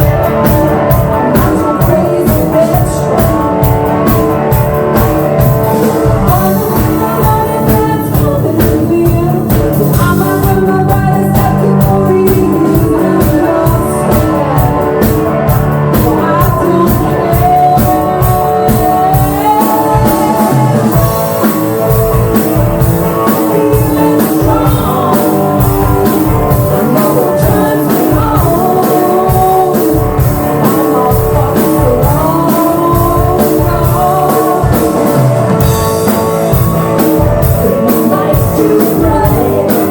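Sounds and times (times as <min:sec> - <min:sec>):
driving drum beat: 0:00.0 - 0:39.9
person singing: 0:00.0 - 0:39.9
rock band playing: 0:00.0 - 0:39.9.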